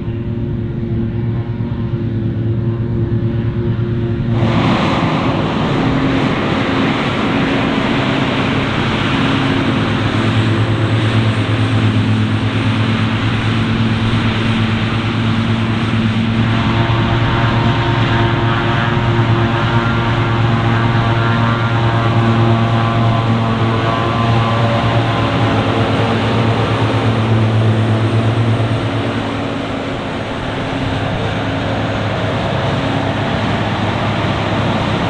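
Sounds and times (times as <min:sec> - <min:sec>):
diesel farm machinery running: 0:00.0 - 0:35.0.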